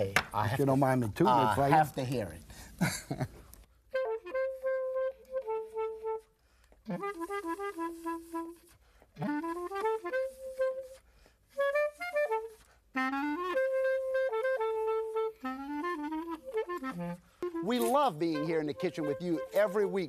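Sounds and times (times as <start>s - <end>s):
solo clarinet melody: 3.6s - 20.0s.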